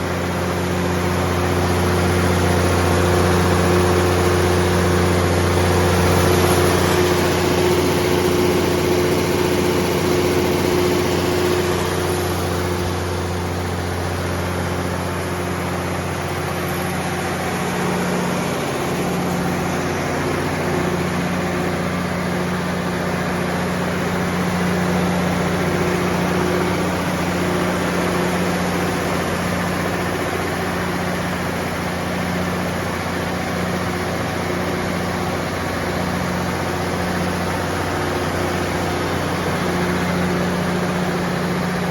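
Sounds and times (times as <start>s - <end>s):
diesel generator humming: 0.0s - 41.9s.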